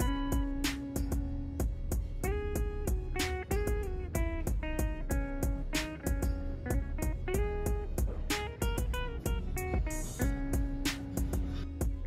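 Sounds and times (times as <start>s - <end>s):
guitar-led instrumental music: 0.0s - 12.0s.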